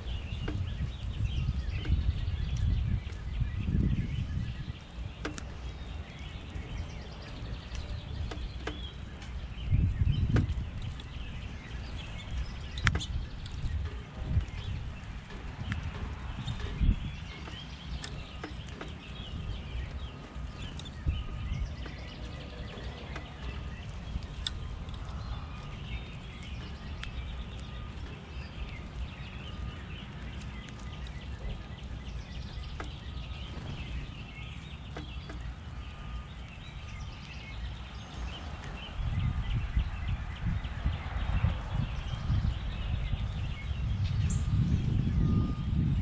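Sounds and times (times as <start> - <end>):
low rumble: 0.0 - 46.0
small birds chirping: 0.0 - 46.0.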